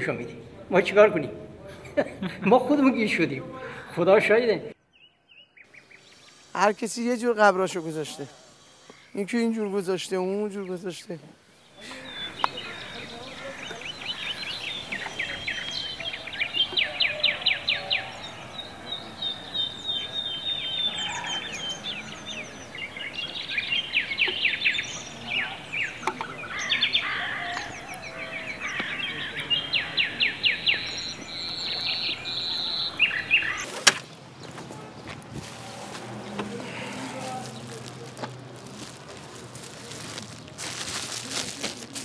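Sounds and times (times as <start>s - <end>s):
songbirds singing: 4.7s - 42.0s.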